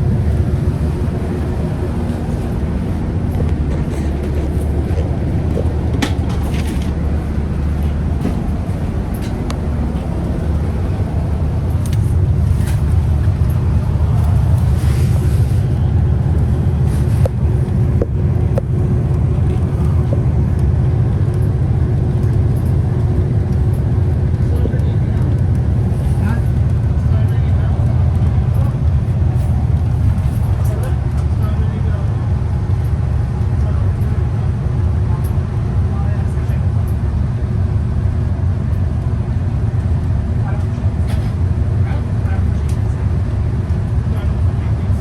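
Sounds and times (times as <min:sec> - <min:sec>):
bus engine rumble: 0:00.0 - 0:45.0
light rattles and clicks: 0:00.5 - 0:37.2.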